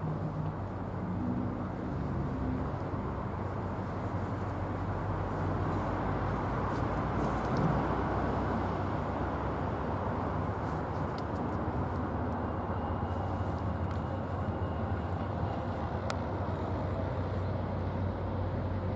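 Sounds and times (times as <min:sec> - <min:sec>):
diesel locomotive engine rumbling: 0:00.0 - 0:18.9.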